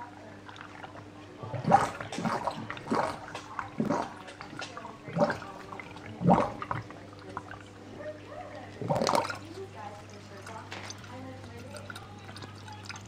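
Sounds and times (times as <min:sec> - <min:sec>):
submersible pump hum: 0:00.0 - 0:13.0
water gurgling and splashing: 0:00.0 - 0:13.0.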